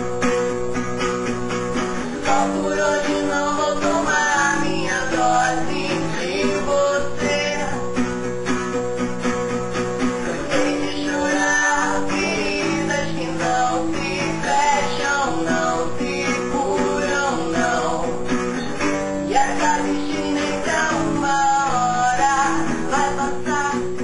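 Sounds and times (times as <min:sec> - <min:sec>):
acoustic guitar strumming: 0:00.0 - 0:24.0
man and woman singing: 0:02.0 - 0:08.3, 0:10.0 - 0:24.0.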